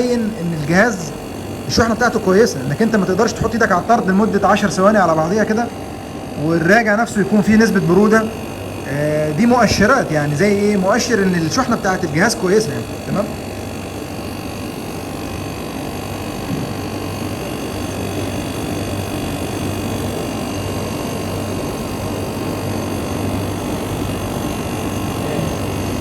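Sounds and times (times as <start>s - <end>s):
air conditioner fan whir: 0.0s - 26.0s
compressor low hum: 0.0s - 26.0s.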